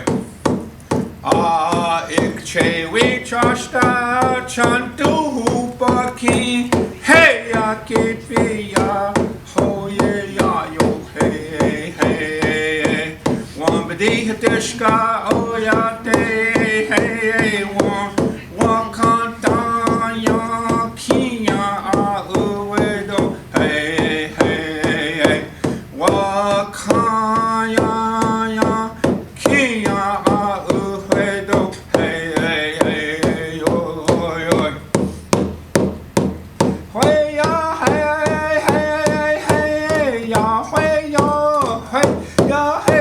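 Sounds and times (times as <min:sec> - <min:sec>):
man singing vocables: 0:00.0 - 0:00.3, 0:01.2 - 0:35.0, 0:36.8 - 0:43.0
steady drum beat: 0:00.0 - 0:43.0.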